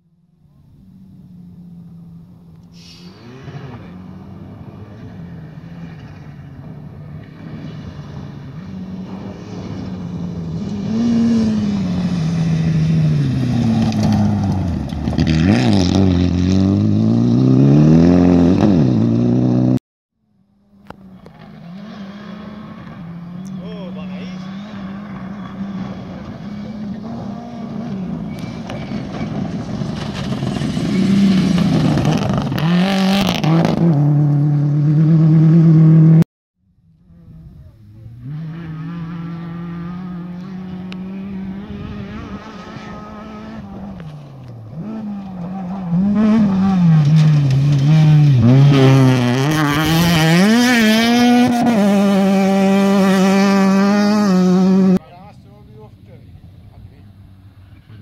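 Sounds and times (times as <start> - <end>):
rally car passing close: 0.5 - 19.8, 20.8 - 36.2, 37.0 - 58.0
rally car engine revving: 0.7 - 19.8, 20.8 - 36.2, 37.0 - 55.0.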